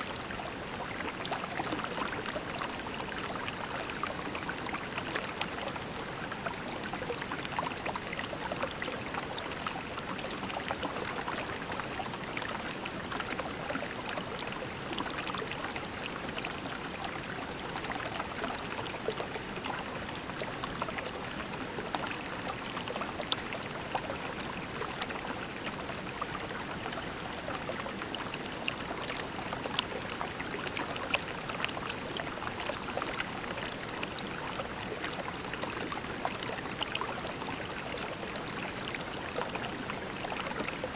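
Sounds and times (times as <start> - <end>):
creek babbling over pebbles: 0.0 - 40.9.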